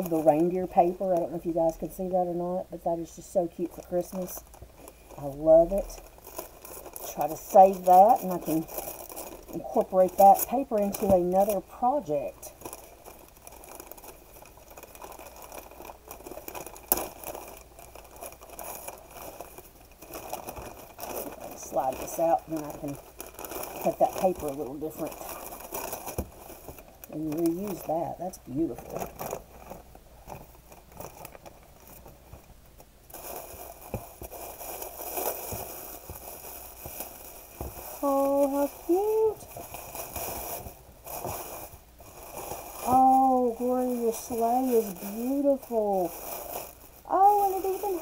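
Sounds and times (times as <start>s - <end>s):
wrapping paper rustling: 0.0s - 48.0s.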